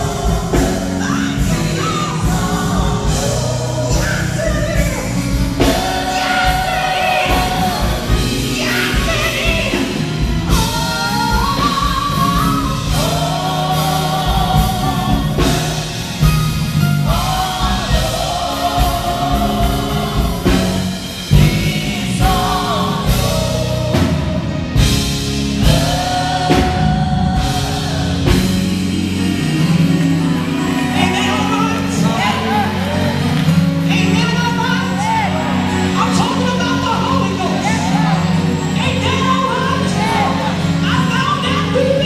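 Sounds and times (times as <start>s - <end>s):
steady drum beat: 0.0s - 34.2s
electric bass: 0.0s - 42.0s
women singing gospel: 0.0s - 42.0s.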